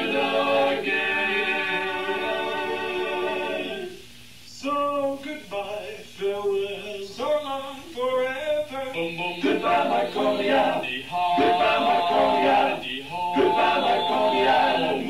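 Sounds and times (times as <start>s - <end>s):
men singing in close harmony: 0.0s - 4.0s, 4.6s - 15.0s.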